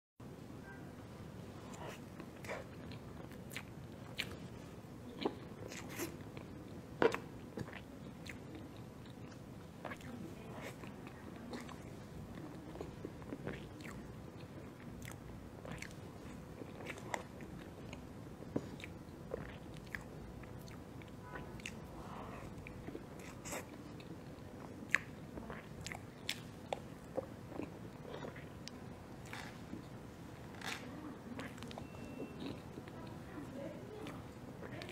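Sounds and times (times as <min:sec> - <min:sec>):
person chewing: 0:01.6 - 0:33.2.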